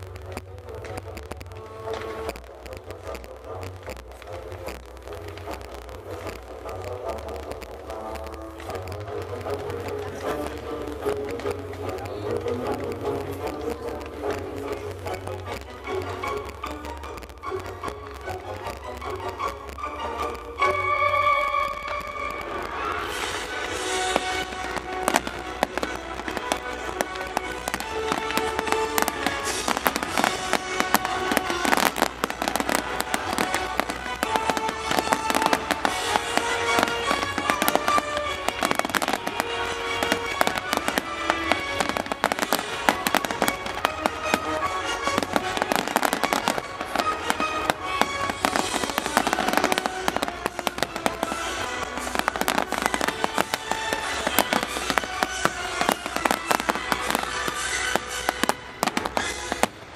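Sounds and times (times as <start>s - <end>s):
fireworks crackling and banging: 0.0s - 59.9s
music playing: 0.0s - 59.9s.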